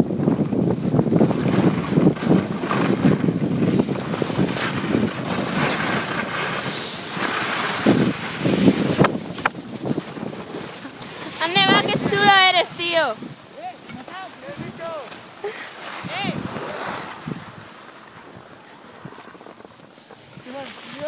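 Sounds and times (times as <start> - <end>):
skis sliding over snow: 0.0 - 21.0
wind buffeting microphone: 0.0 - 21.0.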